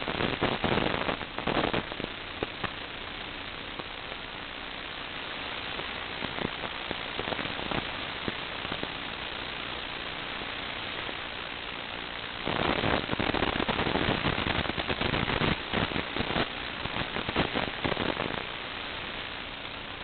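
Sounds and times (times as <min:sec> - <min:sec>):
crackling sputtering noise: 0:00.0 - 0:20.0
static hiss: 0:00.0 - 0:20.0.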